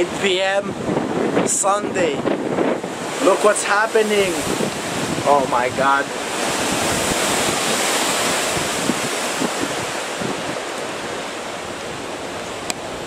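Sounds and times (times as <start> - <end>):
hurricane wind buffeting microphone: 0.0 - 13.0.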